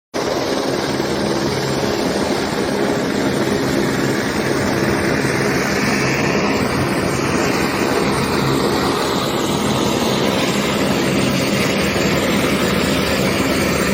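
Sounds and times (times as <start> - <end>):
helicopter engine and rotor: 0.1 - 13.9.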